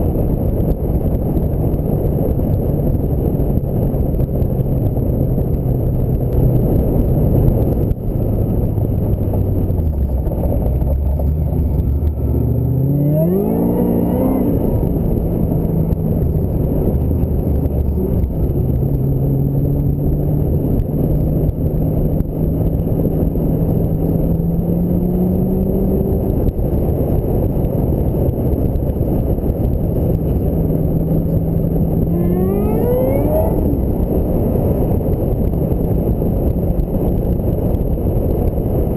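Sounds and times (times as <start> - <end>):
car engine accelerating: 0.0 - 38.9
road and wind rush: 0.0 - 38.9.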